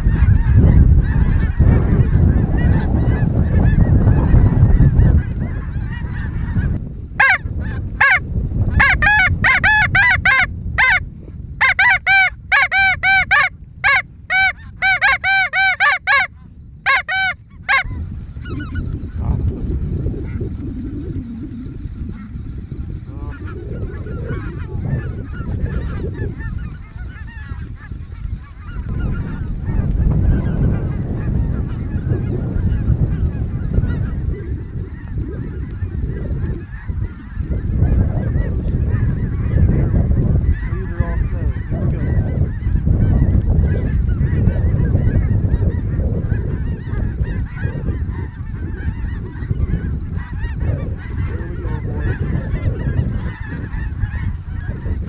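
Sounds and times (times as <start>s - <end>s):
geese honking: 0.0s - 11.0s, 11.6s - 55.0s
heavy low rumble: 0.0s - 55.0s.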